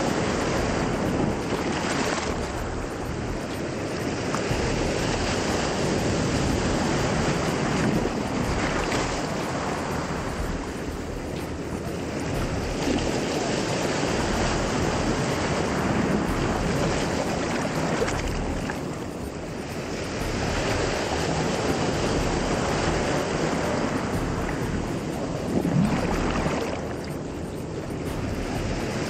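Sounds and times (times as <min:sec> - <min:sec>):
waves washing on a pebble shore: 0:00.0 - 0:29.0.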